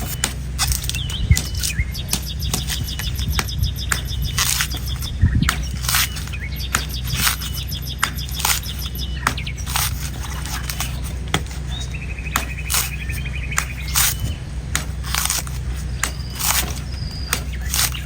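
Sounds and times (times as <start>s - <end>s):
bird trilling: 0.0s - 18.0s
birds chirping: 0.0s - 18.0s
knife chopping coconut husk: 0.0s - 18.0s
steady low hum: 0.0s - 18.0s.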